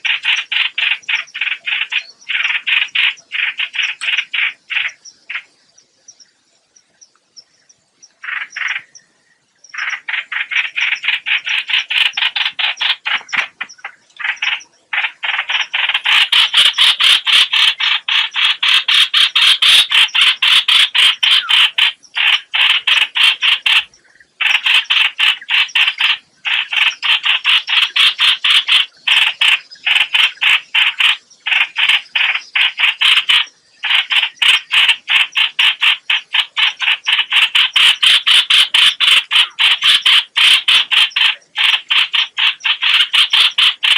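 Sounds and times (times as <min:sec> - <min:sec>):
bird harsh repeated calls: 0:00.0 - 0:05.6, 0:08.0 - 0:43.9.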